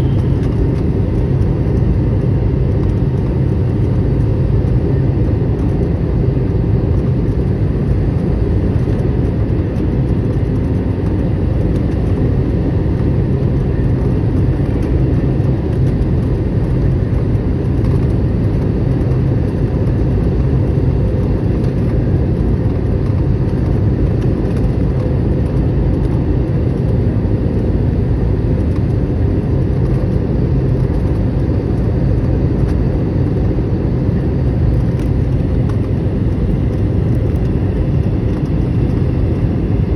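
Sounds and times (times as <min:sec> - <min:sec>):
faint steady whine: 0:00.0 - 0:39.9
jet engine drone: 0:00.0 - 0:39.9.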